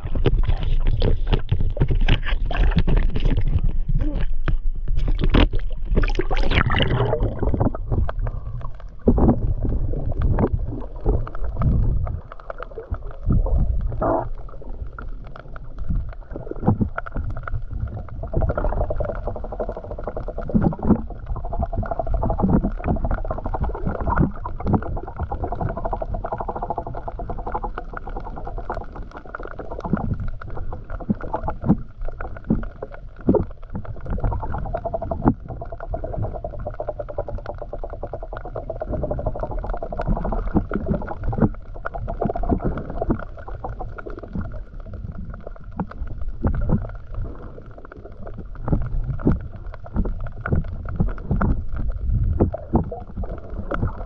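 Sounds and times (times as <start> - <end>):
underwater water movement: 0.0 - 54.0.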